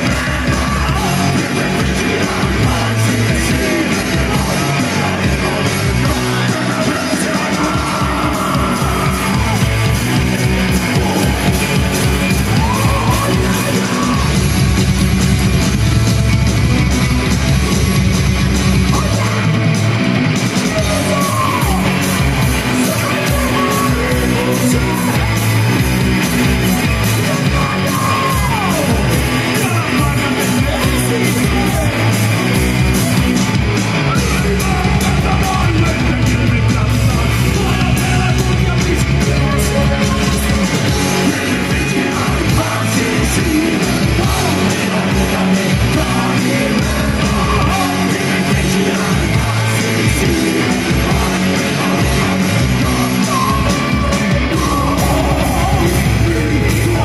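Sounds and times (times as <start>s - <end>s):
shouted vocals: 0.0s - 14.7s, 20.5s - 57.0s
driving drum beat: 0.0s - 57.0s
electric guitars: 0.0s - 57.0s.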